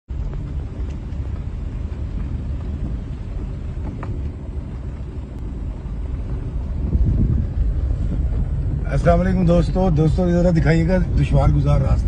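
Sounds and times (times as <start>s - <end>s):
car rumbling on dirt track: 0.1s - 12.0s.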